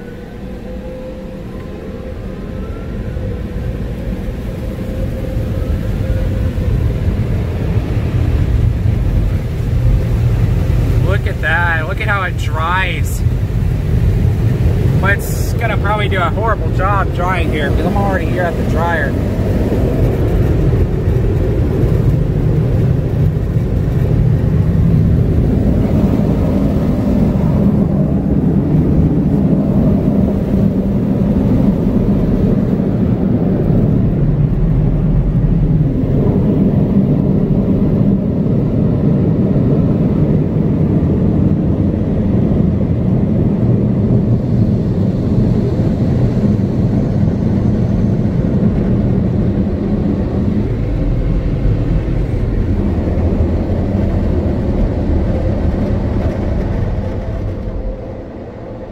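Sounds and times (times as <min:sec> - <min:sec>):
car wash dryers roaring: 0:00.0 - 0:58.9.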